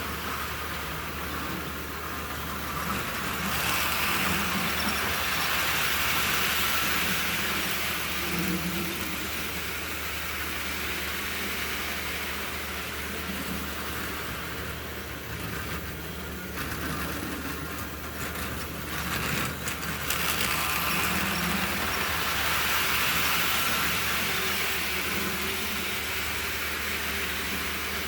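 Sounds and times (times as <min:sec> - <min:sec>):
model train motor whirring: 0:00.0 - 0:28.0
wheels clattering on rails: 0:00.0 - 0:28.0.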